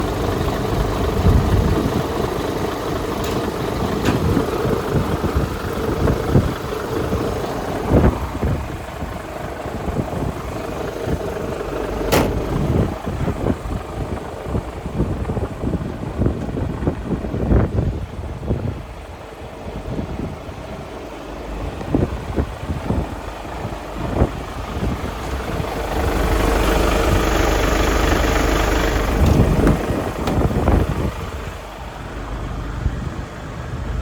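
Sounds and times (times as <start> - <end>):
truck diesel engine idling: 0.0 - 34.0.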